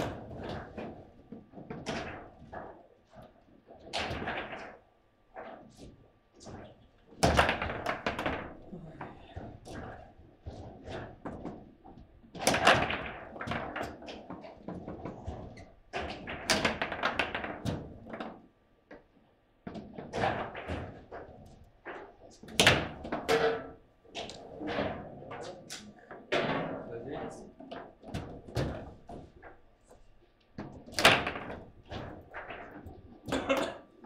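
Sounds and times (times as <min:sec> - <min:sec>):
table football knocks and clacks: 0:00.0 - 0:26.9, 0:27.5 - 0:34.0.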